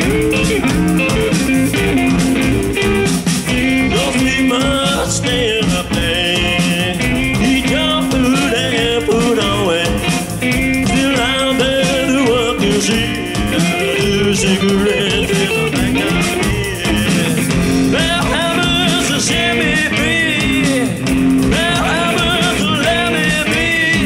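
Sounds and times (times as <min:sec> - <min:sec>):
electric bass: 0:00.0 - 0:24.0
electric guitar: 0:00.0 - 0:24.0
man singing: 0:03.7 - 0:24.0.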